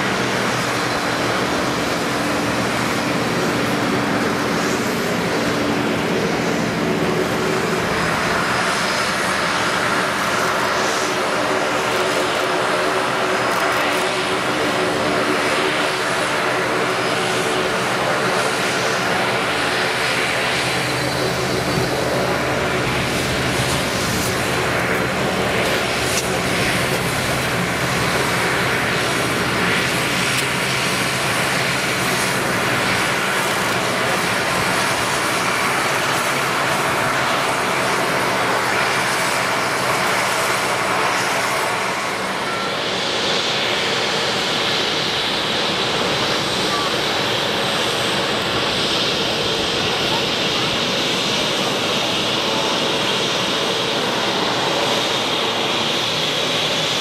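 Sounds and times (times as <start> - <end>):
turboprop engines droning: 0.0 - 57.0.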